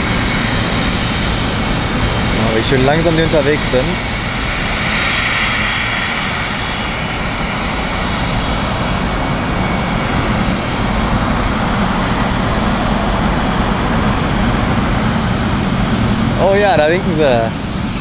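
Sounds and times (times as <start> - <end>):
jet engines rumbling at taxi: 0.0 - 18.0.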